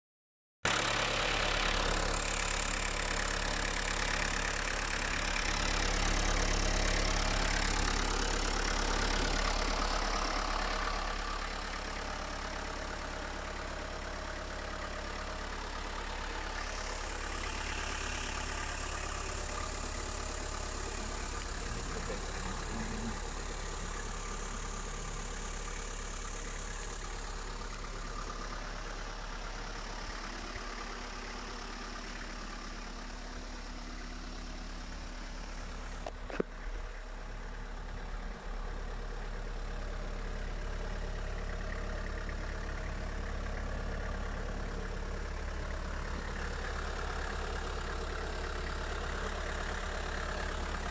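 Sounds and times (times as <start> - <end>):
van engine idling: 0.6 - 50.9.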